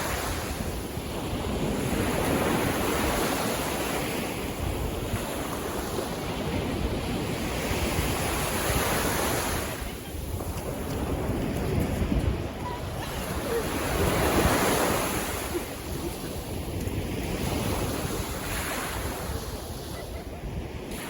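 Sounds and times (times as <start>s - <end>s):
sea waves washing in surf: 0.0s - 21.0s
wind buffeting microphone: 0.0s - 21.0s.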